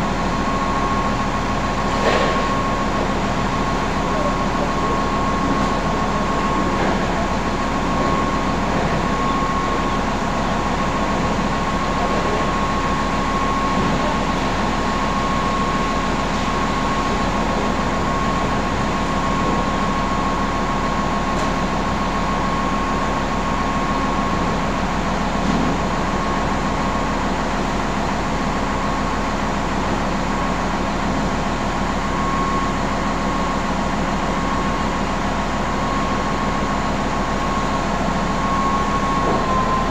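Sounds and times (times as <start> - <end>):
industrial machinery drone: 0.0 - 39.9.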